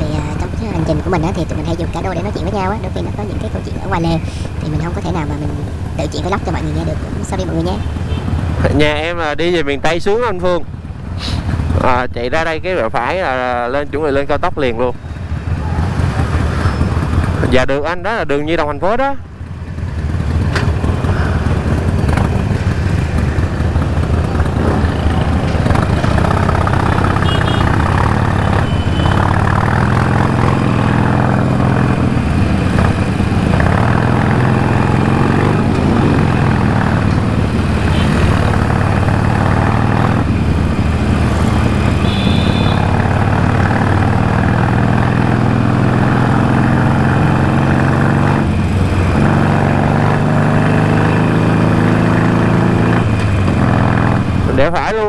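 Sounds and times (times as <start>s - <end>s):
motorcycle engine running: 0.0s - 9.4s, 10.2s - 12.0s, 14.9s - 17.7s, 19.1s - 55.0s
wind and road noise: 0.0s - 55.0s.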